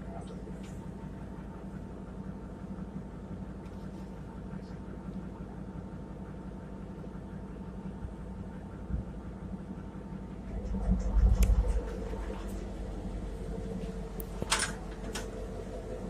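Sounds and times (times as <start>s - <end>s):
steady engine hum: 0.0s - 16.0s.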